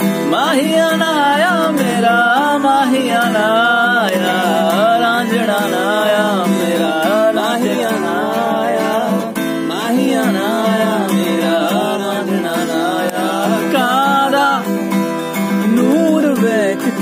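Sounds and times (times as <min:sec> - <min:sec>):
person singing long gliding phrases: 0:00.2 - 0:14.8, 0:15.5 - 0:17.0.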